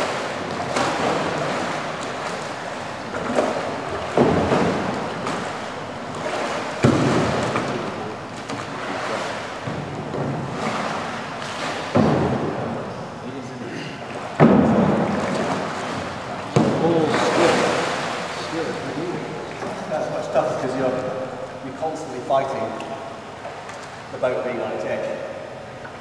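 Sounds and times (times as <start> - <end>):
pool water splashing: 0.0 - 26.0.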